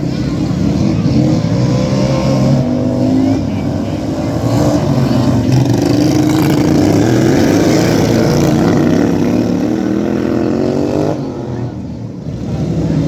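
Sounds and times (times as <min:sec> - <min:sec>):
racing lawn tractor engines: 0:00.0 - 0:13.0.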